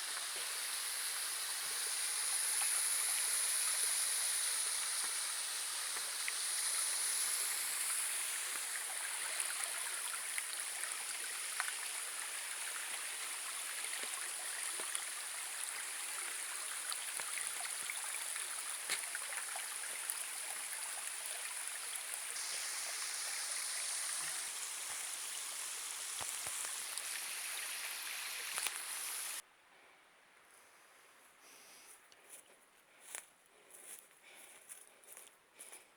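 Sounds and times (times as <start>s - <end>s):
rushing water: 0.0s - 29.4s.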